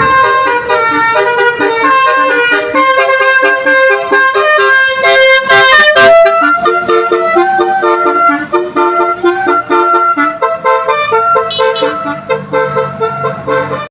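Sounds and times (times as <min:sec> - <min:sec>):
buzzy horn-like tune: 0:00.0 - 0:13.9.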